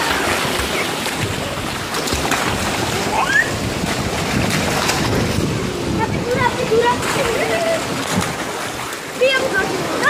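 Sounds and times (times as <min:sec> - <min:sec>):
water splashing and churning: 0:00.0 - 0:10.0.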